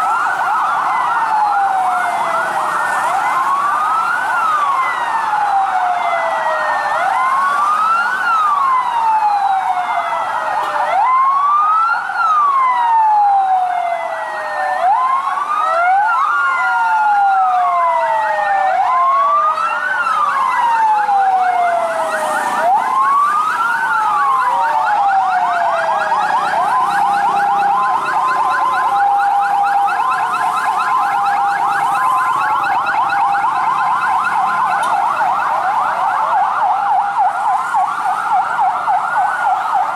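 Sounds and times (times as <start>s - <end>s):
fast yelp siren: 0.0s - 39.9s
two-tone hi-lo siren: 0.0s - 39.9s
wailing siren: 0.0s - 39.9s.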